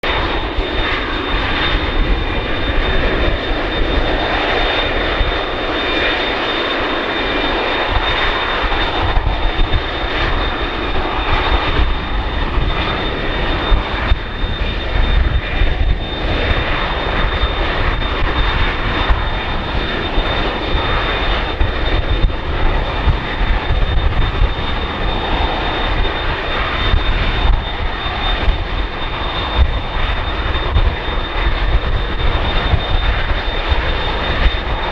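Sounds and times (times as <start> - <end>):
continuous rumble: 0.0 - 34.9
jet engines whining: 0.0 - 34.9.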